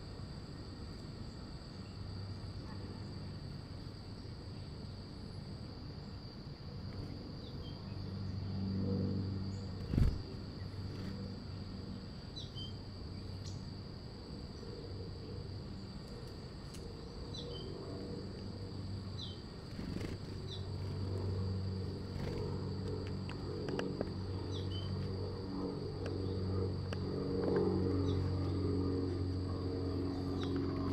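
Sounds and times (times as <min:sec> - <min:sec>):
crickets droning: 0:00.0 - 0:30.9
low steady hum: 0:00.0 - 0:30.9.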